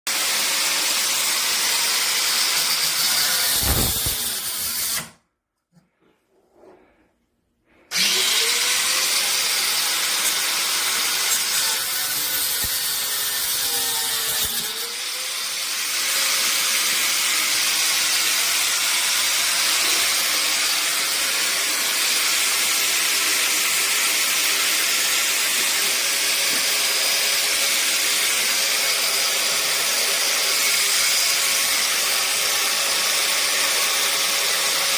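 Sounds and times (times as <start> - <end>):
power drill motor running: 0.1 - 5.2, 7.9 - 34.9.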